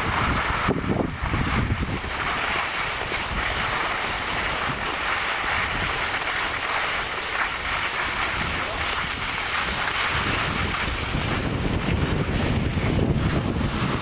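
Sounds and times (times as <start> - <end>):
skis sliding over snow: 0.0 - 14.0
wind buffeting microphone: 0.0 - 14.0.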